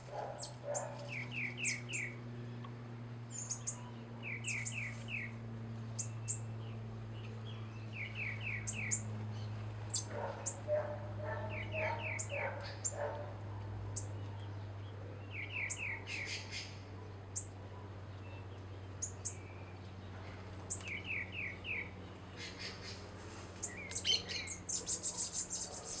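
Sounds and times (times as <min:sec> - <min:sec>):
small songbirds chirping: 0:00.0 - 0:26.0.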